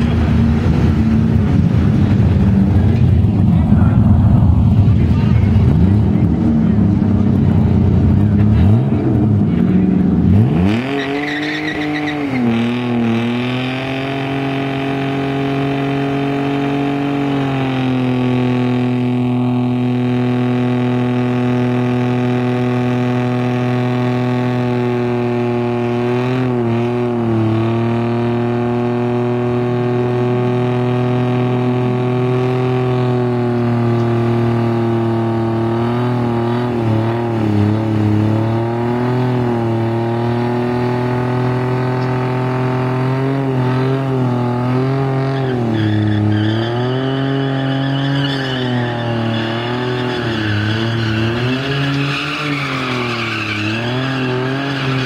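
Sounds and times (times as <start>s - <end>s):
tyres spinning on asphalt: 0.0s - 26.6s, 28.3s - 55.0s
car engine revving: 0.0s - 55.0s.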